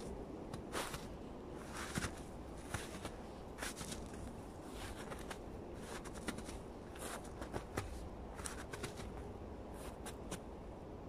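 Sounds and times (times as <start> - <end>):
footsteps crunching through snow: 0.0 - 10.4.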